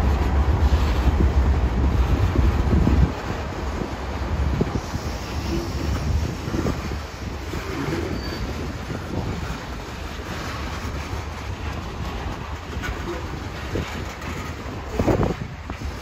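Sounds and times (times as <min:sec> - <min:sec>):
train wheels rumbling on rails: 0:00.0 - 0:16.0
wheels clacking over rail joints: 0:00.0 - 0:16.0.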